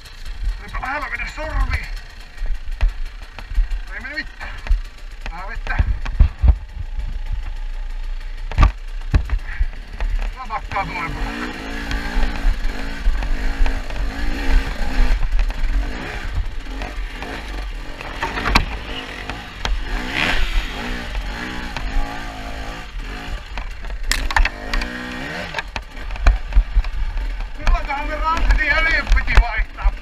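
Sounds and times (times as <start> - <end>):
motorcycle engine revving: 0.0 - 30.0
motorcycle knocking over rocks: 1.6 - 30.0.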